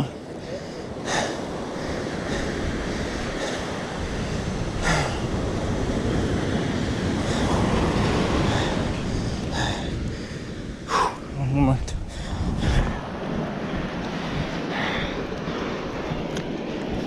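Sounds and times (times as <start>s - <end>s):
surf breaking on a beach: 0.0s - 17.0s
wind rumbling on microphone: 0.0s - 17.0s.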